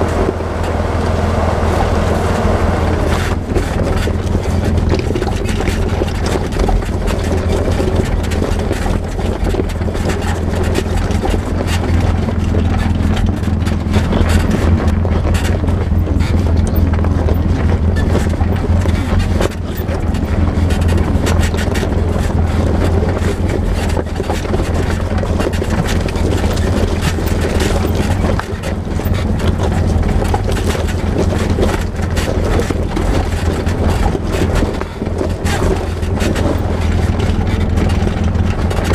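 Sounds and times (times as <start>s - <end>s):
clicks and rattles from rough ground: 0.0s - 38.9s
vehicle engine droning: 0.0s - 38.9s.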